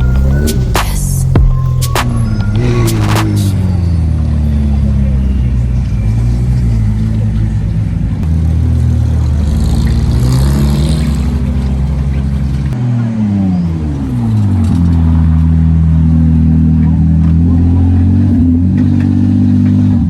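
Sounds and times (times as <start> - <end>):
supercar engine running loudly: 0.0 - 20.0.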